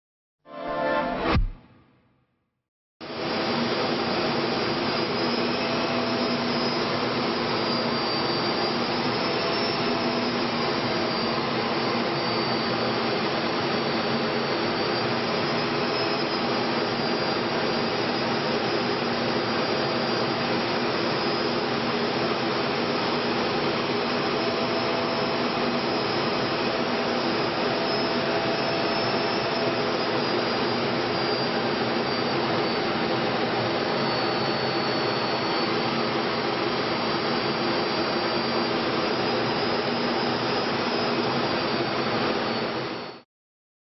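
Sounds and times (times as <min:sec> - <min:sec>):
jet engine roar: 0:03.1 - 0:43.1.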